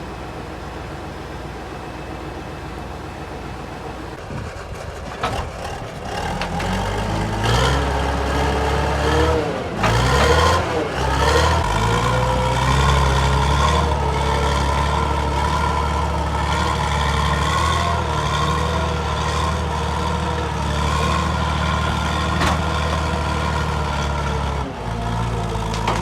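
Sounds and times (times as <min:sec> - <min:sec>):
diesel engine running at low revs: 0:00.0 - 0:26.0.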